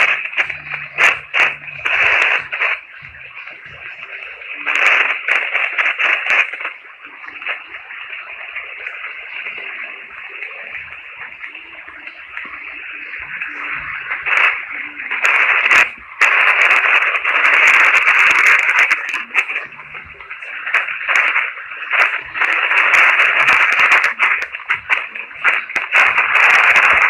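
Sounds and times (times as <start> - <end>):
static hiss and crackle: 0.0 - 27.0.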